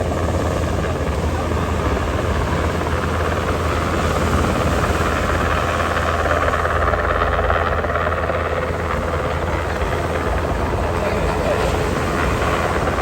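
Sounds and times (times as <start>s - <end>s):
aircraft rumbling: 0.0s - 13.0s.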